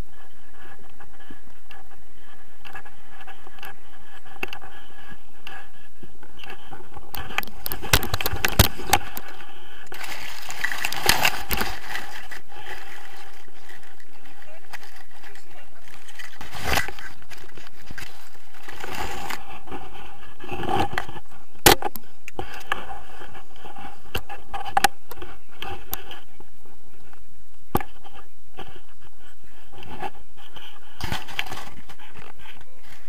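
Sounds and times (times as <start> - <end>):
camera brushing through grass: 0.0 - 21.6, 22.4 - 33.0.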